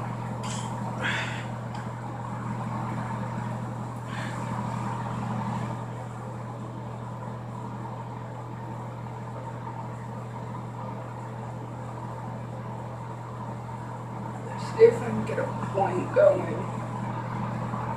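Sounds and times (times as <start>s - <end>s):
low mechanical hum: 0.0s - 17.9s.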